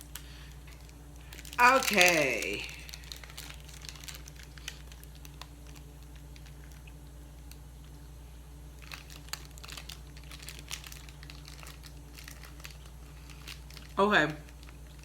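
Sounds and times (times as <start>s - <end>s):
wrapper crinkling and tearing: 0.0s - 7.6s, 8.7s - 15.0s
low room hum: 0.0s - 15.0s.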